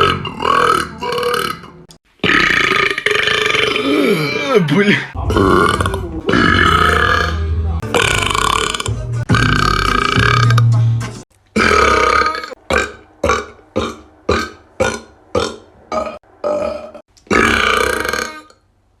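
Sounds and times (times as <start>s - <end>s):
man burping: 2.2s - 10.8s, 11.5s - 18.6s.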